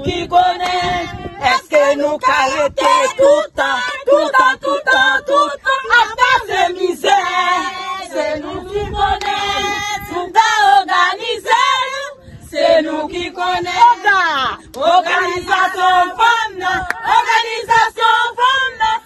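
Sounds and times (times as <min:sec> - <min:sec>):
women singing together: 0:00.0 - 0:19.0.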